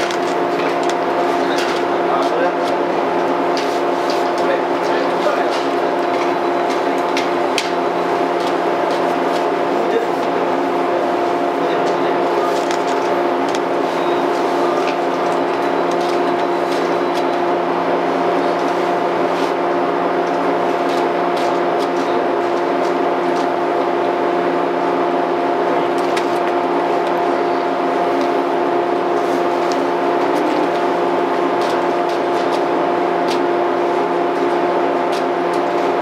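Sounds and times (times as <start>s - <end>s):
train machinery humming: 0.0s - 36.0s.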